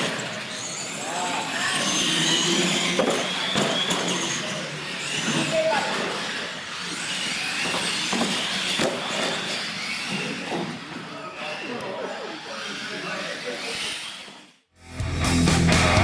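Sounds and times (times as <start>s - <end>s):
small electric motors whining: 0.0s - 14.7s.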